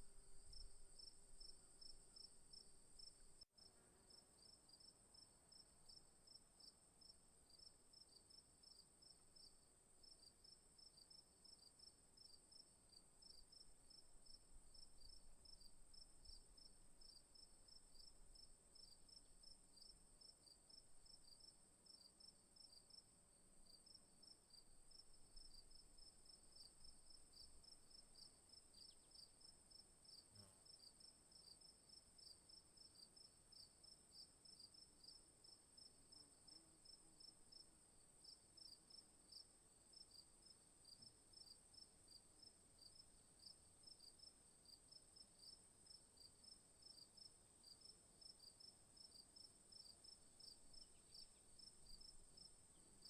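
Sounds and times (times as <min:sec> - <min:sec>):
cricket chirps: 0:00.0 - 0:53.0.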